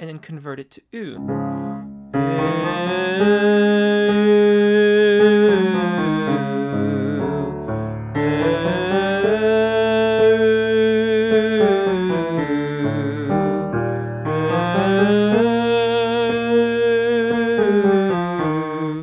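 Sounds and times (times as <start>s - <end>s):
man singing vowel exercise: 0.0s - 1.2s, 2.2s - 19.0s
held piano chord: 1.2s - 19.0s.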